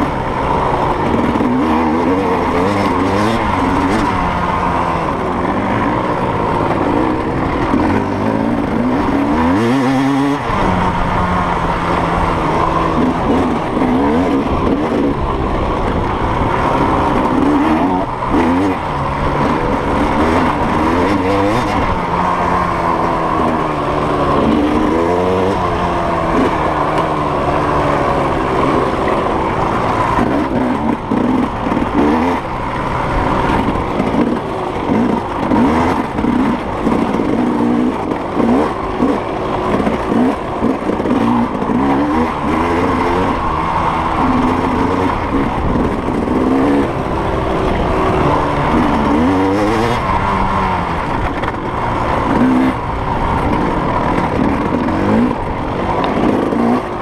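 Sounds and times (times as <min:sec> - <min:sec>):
racing engine revving hard: 0:00.0 - 0:57.0.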